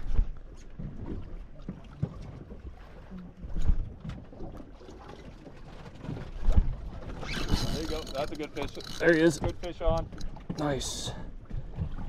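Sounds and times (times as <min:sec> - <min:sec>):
water lapping against boat: 0:00.0 - 0:12.0
wind buffeting microphone: 0:00.0 - 0:12.0.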